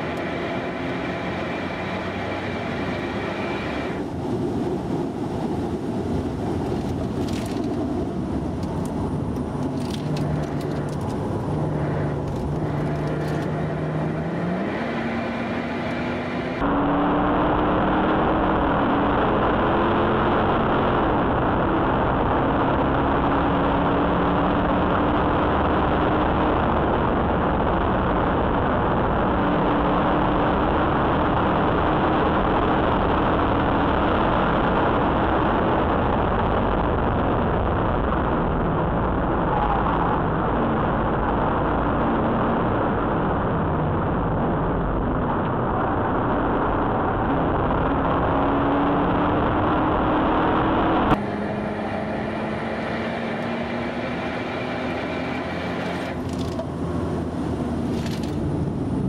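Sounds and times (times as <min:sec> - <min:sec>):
car engine accelerating: 0:00.0 - 0:59.0
wind and road noise: 0:00.0 - 0:59.0.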